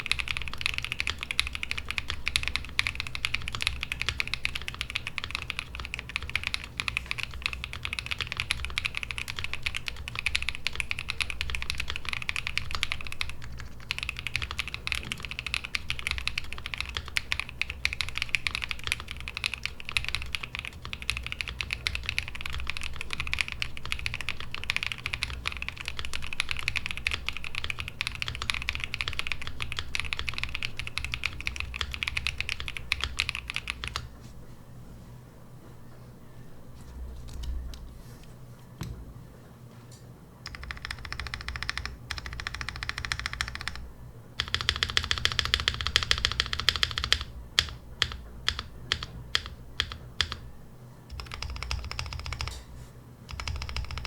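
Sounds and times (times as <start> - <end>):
fast mechanical keyboard typing: 0.0 - 34.1, 40.4 - 50.5, 51.1 - 52.6, 53.3 - 54.0.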